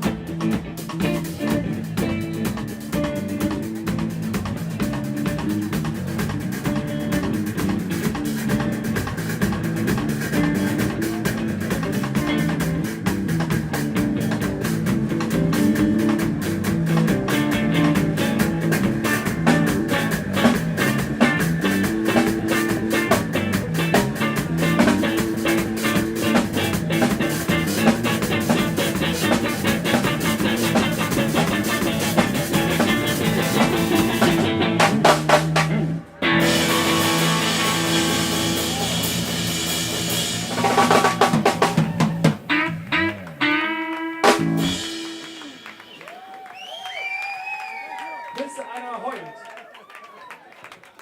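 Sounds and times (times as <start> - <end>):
live rock band playing: 0.0 - 46.5.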